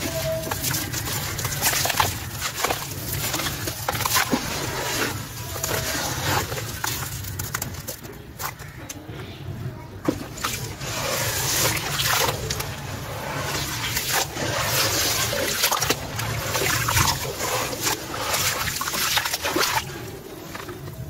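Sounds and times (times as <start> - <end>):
hands sloshing in muddy water: 0.0 - 7.6, 10.0 - 21.0.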